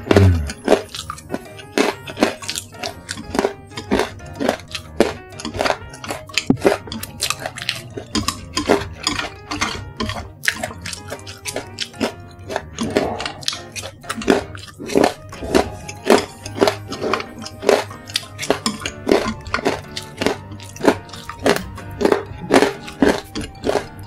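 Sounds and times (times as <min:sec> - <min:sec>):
background music: 0:00.0 - 0:24.0
crunching and chewing: 0:00.0 - 0:24.0.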